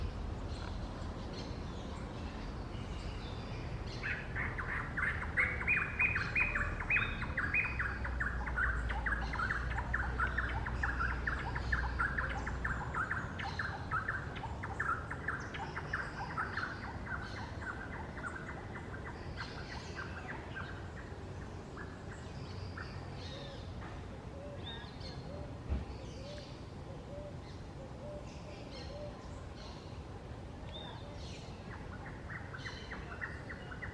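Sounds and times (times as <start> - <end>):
birds chirping: 0.0 - 30.1, 30.7 - 33.9.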